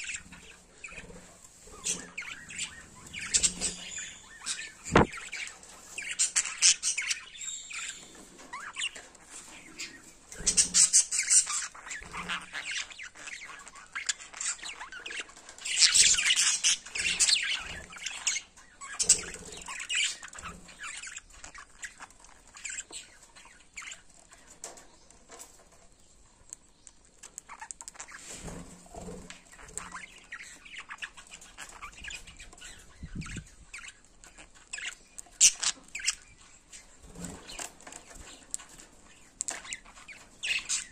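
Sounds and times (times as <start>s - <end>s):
budgerigars chattering: 0.0s - 24.5s, 29.0s - 40.9s.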